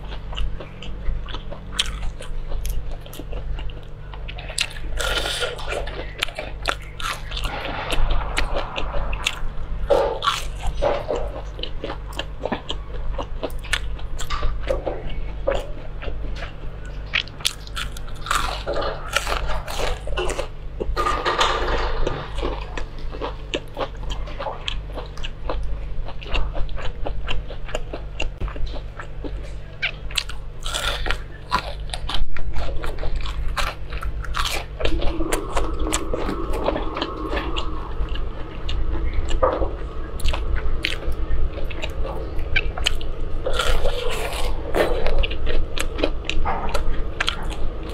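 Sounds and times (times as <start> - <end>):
chewing crunchy fried food: 0.0 - 47.9.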